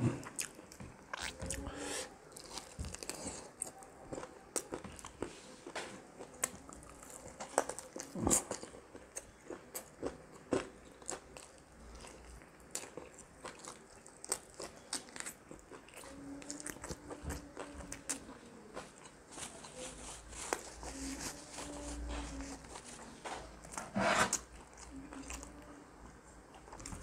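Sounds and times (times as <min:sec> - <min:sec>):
person chewing fried chicken: 0:00.1 - 0:23.1.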